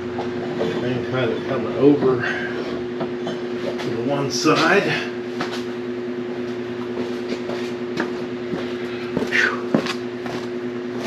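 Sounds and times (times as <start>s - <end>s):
steady tonal hum: 0.0s - 11.0s.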